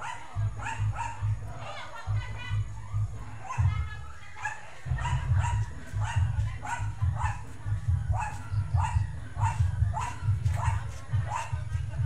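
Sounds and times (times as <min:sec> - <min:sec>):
dog barking: 0:00.0 - 0:01.8, 0:03.3 - 0:12.0.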